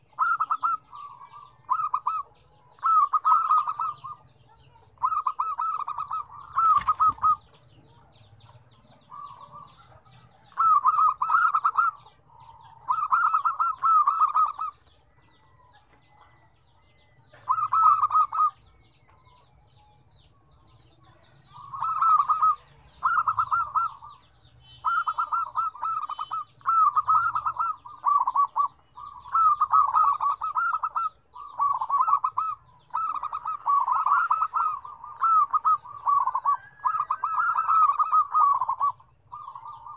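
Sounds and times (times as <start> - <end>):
doves cooing: 0.0 - 19.5, 21.0 - 39.9.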